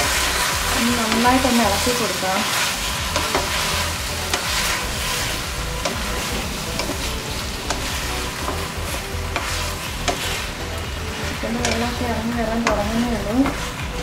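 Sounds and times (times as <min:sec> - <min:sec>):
chicken sizzling in oil: 0:00.0 - 0:14.0
spatula scraping and knocking pan: 0:00.0 - 0:14.0.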